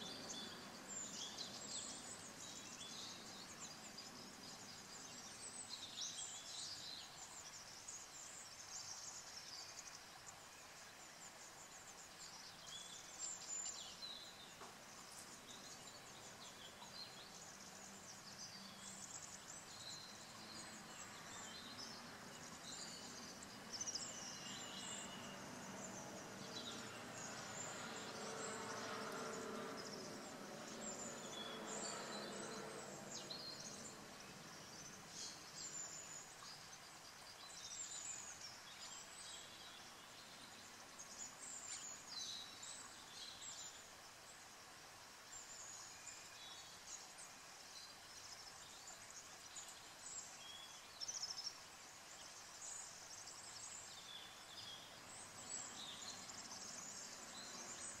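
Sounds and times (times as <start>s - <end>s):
faint steady hum: 0.0s - 58.0s
small birds chirping: 0.0s - 58.0s.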